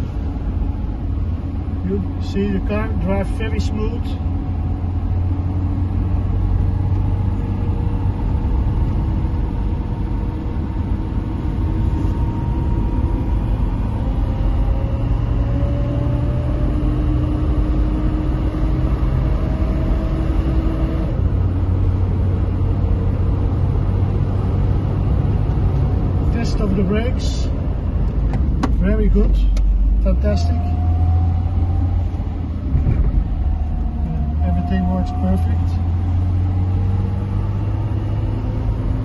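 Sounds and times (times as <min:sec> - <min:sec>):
car engine rumble: 0:00.0 - 0:39.0
road noise: 0:00.0 - 0:39.0.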